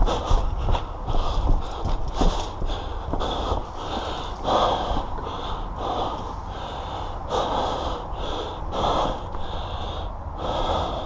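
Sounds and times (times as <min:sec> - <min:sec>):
person panting: 0:00.0 - 0:11.0.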